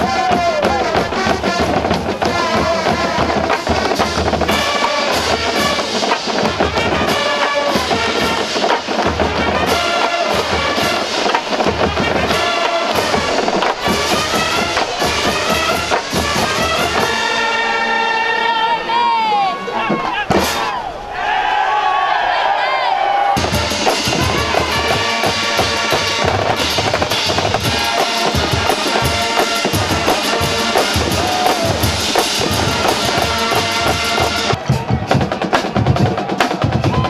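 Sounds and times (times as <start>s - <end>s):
drum beat: 0.0s - 17.4s, 19.8s - 20.7s, 23.3s - 37.0s
brass band music: 0.0s - 37.0s.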